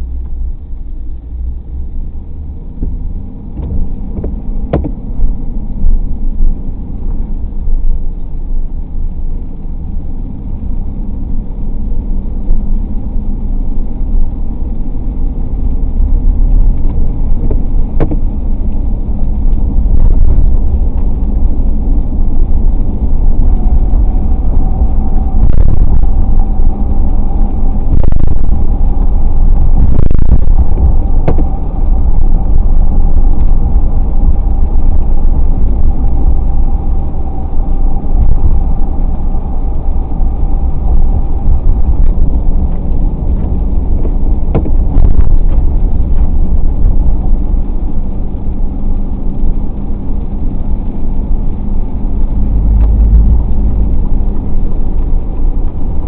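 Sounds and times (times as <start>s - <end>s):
car engine and tyre rumble: 0.0s - 56.0s
faint steady whine: 0.0s - 56.0s.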